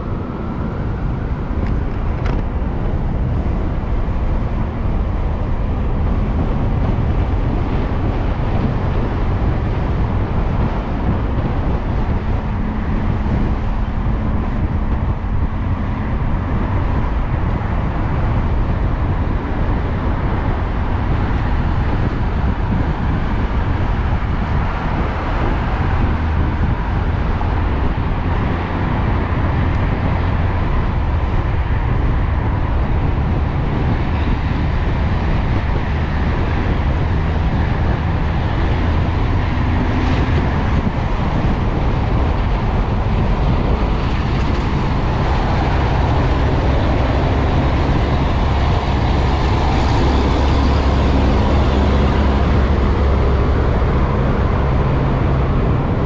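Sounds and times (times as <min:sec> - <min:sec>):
motorbike tyre noise on road: 0:00.0 - 0:56.0
wind buffeting microphone: 0:00.0 - 0:56.0.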